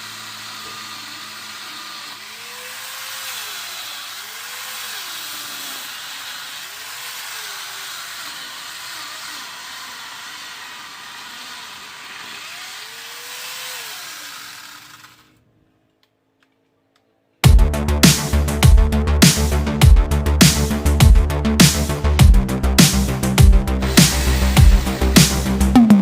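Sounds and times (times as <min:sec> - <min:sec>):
chainsaw cutting wood: 0:00.0 - 0:15.4, 0:17.4 - 0:26.0.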